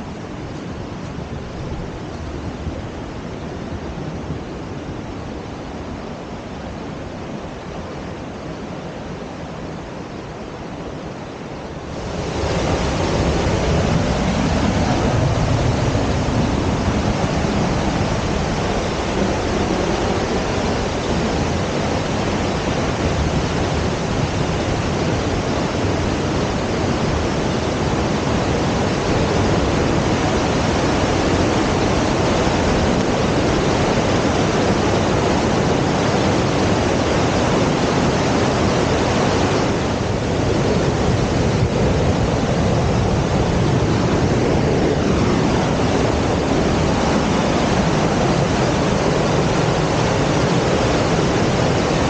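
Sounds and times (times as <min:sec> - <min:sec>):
fast-flowing water rushing: 0:00.0 - 0:52.0.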